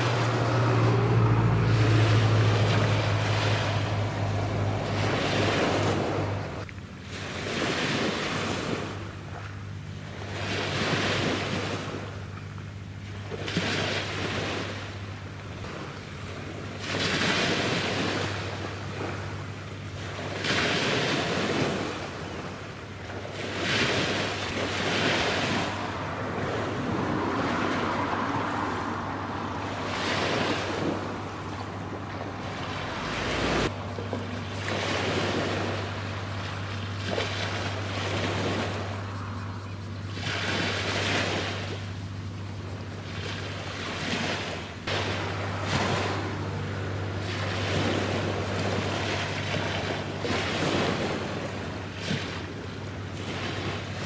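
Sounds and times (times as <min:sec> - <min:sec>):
small waves washing in: 0:00.0 - 0:54.0
steady low hum: 0:00.0 - 0:54.0.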